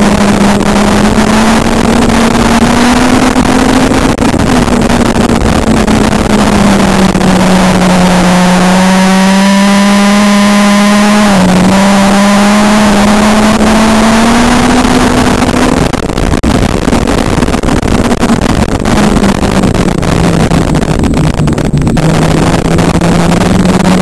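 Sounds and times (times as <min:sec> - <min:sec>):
race car engine: 0:00.0 - 0:24.0.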